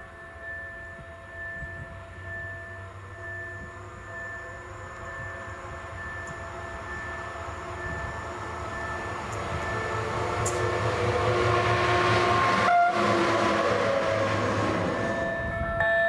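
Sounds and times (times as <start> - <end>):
steady held tones: 0.0 - 16.0
train passing with rumble and hiss: 0.0 - 16.0.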